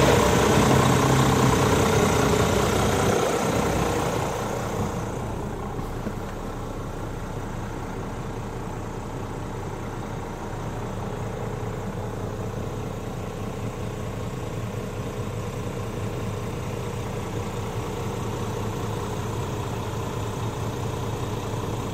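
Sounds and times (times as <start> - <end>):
diesel engine idling: 0.0 - 21.9.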